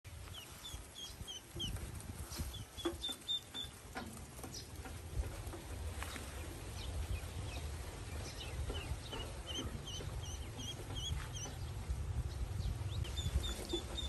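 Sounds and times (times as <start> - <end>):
ducklings peeping: 0.1 - 14.0.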